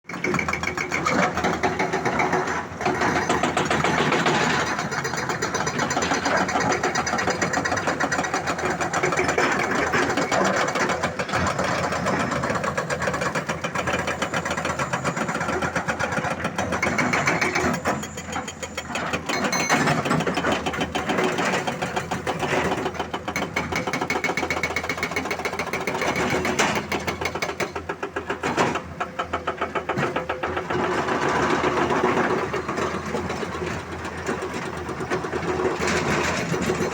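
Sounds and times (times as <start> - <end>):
excavator diesel engines clattering: 0.1 - 36.9.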